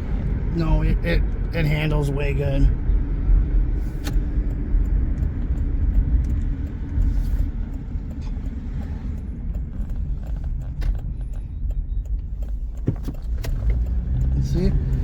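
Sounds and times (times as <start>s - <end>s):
car cabin engine rumble: 0.0s - 15.0s.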